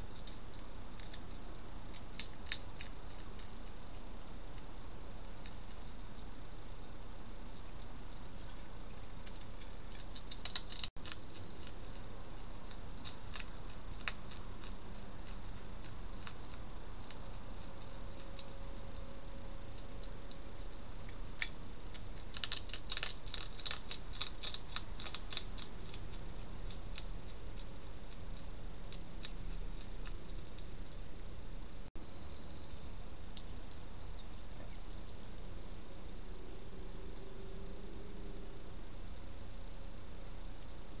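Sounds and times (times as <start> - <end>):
hedgehog chewing and smacking: 0.0 - 31.3, 33.3 - 35.4.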